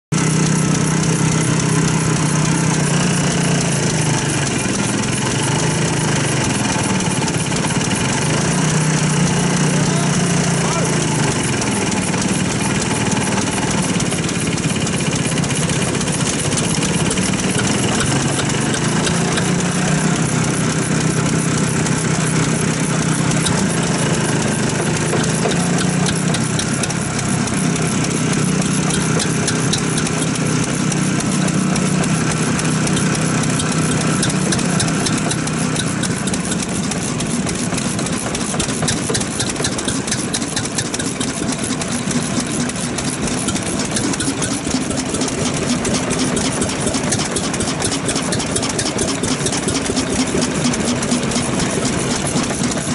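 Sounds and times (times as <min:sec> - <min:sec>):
diesel engine knocking: 0:00.1 - 0:52.9.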